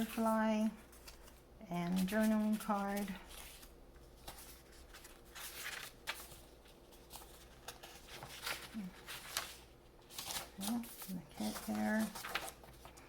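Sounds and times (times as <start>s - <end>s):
paper pages rustling: 0.0s - 13.0s.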